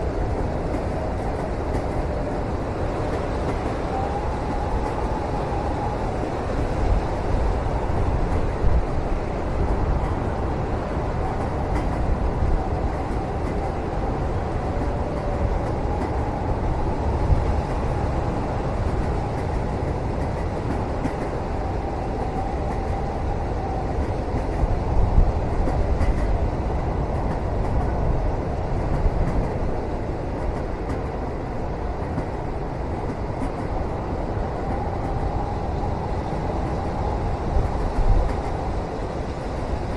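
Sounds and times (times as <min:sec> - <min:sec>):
train rumble inside cabin: 0:00.0 - 0:39.9.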